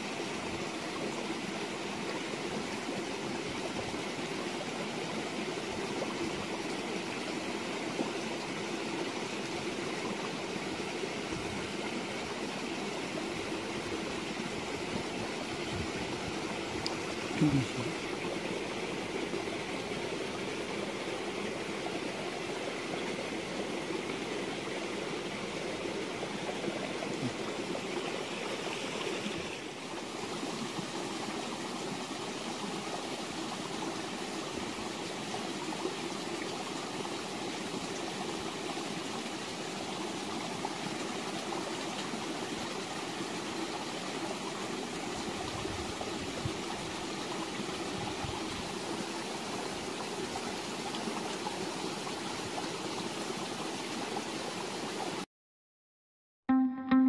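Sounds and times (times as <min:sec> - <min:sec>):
running water rushing: 0:00.0 - 0:55.3.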